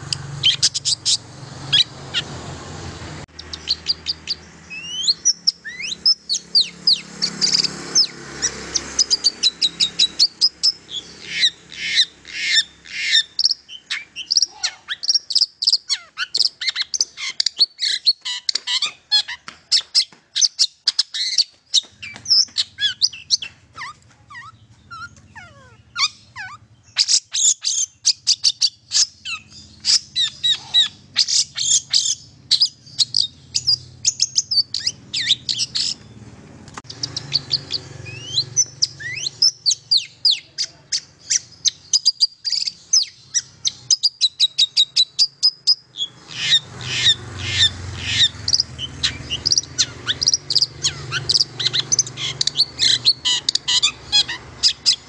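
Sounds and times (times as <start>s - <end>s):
shrike singing chirps and trills: 0.0s - 55.0s.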